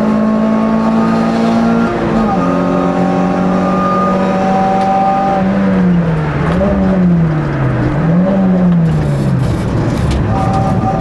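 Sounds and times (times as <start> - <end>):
race car engine revving: 0.0 - 11.0
road and tyre rumble: 0.0 - 11.0.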